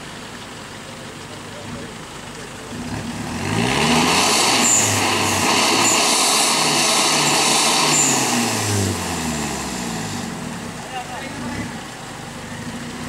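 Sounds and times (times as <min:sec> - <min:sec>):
diesel engine revving: 0:01.4 - 0:13.0.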